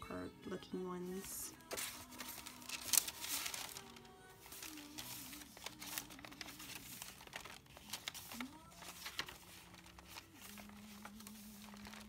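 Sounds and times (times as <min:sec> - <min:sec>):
paper rustling and crinkling: 0:01.1 - 0:12.0.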